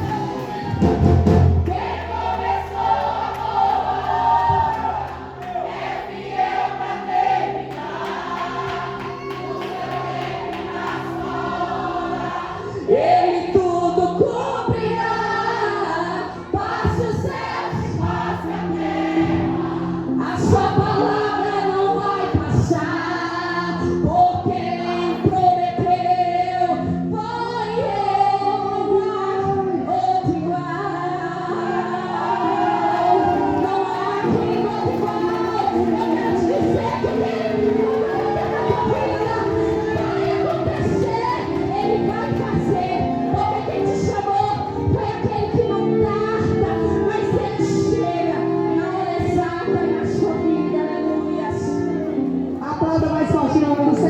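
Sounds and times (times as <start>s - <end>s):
choir singing gospel song: 0.0s - 26.9s, 27.6s - 54.0s.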